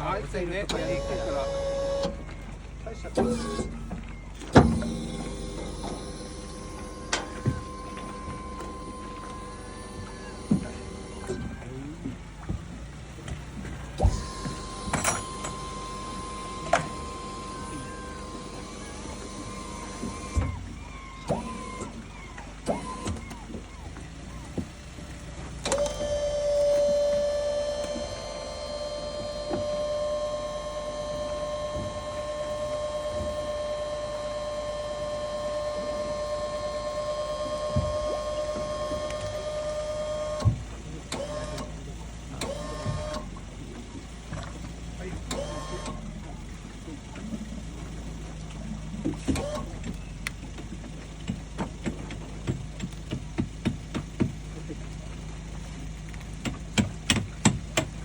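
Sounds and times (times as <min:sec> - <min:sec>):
steady low hum: 0:00.0 - 0:58.0
steady machine whine: 0:00.0 - 0:58.0.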